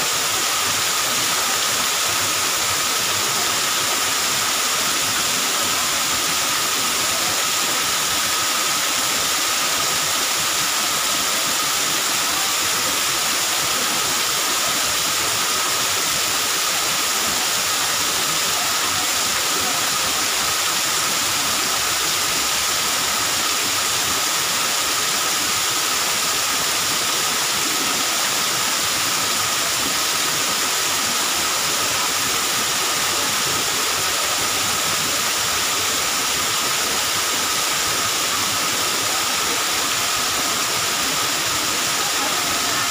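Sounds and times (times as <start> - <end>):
waterfall rushing into pool: 0.0 - 42.9.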